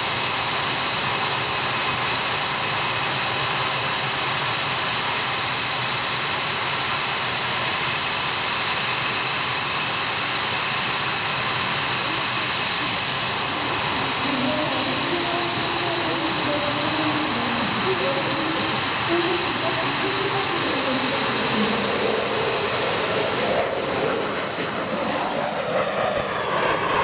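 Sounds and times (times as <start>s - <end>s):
high-pitched engine whine: 0.0s - 27.0s
jet engine roar: 0.0s - 27.0s.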